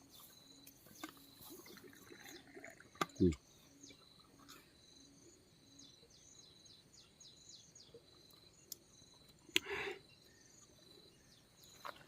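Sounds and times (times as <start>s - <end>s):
high insect drone: 0.0s - 12.0s
small birds chirping: 0.0s - 12.0s.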